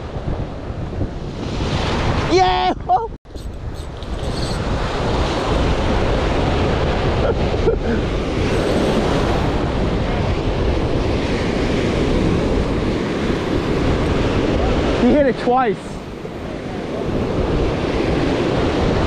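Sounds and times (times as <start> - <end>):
ocean surf breaking: 0.0 - 2.7, 3.4 - 19.0
wind buffeting microphone: 0.0 - 19.0.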